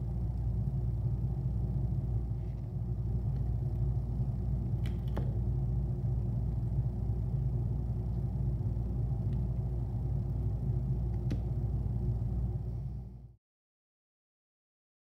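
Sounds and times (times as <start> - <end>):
steady low machine hum: 0.0 - 13.4.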